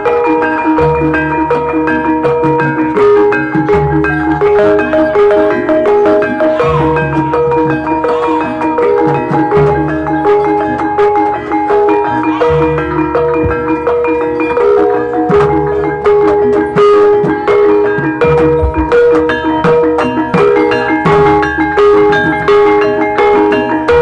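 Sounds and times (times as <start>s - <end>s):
drum strokes: 0.0s - 24.0s
metallophones ringing a melody: 0.0s - 24.0s.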